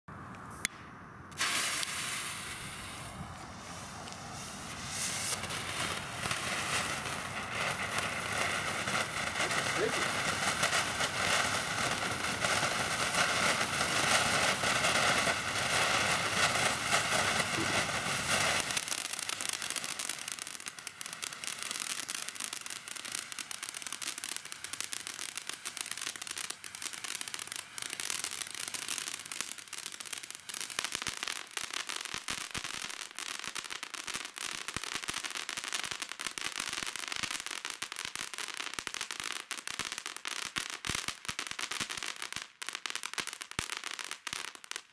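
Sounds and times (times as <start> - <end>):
firework fountain hissing: 0.4 - 42.2
firework crackling: 0.4 - 44.9.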